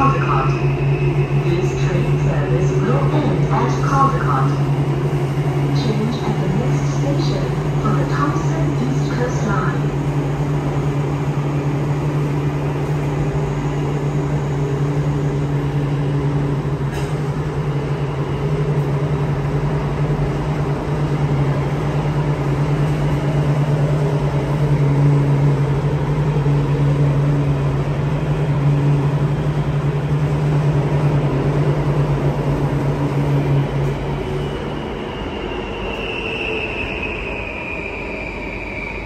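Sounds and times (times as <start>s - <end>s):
metro train hum and rumble: 0.0s - 39.0s.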